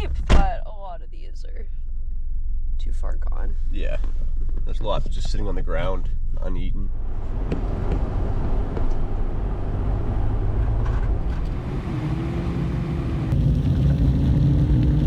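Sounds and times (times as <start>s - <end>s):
road rumble: 0.0s - 15.0s
car engine driving: 1.7s - 15.0s.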